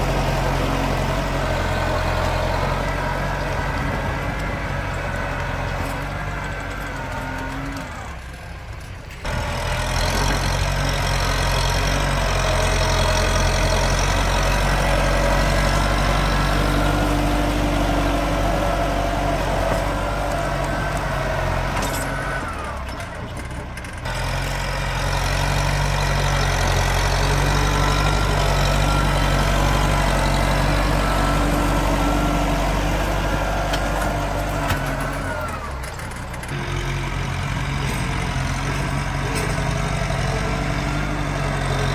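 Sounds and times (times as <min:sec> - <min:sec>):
tractor engine under load: 0:00.0 - 0:41.9.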